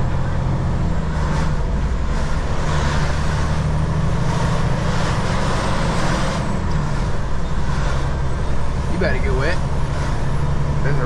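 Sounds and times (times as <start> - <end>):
diesel truck engine running: 0.0 - 11.0
road noise hiss: 0.0 - 11.0.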